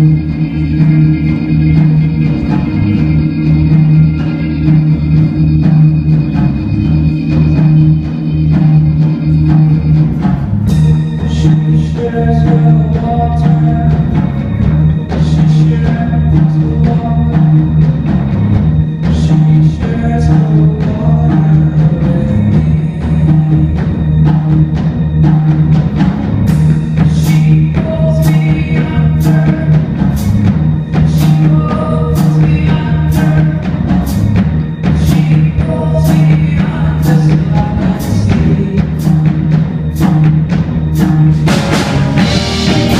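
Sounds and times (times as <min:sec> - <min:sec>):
bass guitar: 0:00.0 - 0:42.9
drum kit: 0:00.0 - 0:42.9
electric guitar: 0:00.0 - 0:42.9
sustained low drone: 0:00.0 - 0:42.9
synth keyboard: 0:00.0 - 0:42.9.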